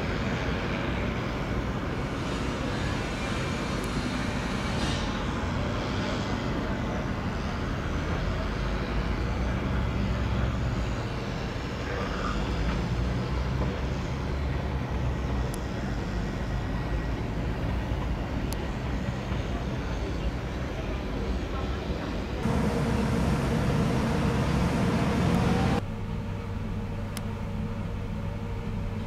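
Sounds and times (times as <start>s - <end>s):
train engines droning: 0.0s - 29.0s.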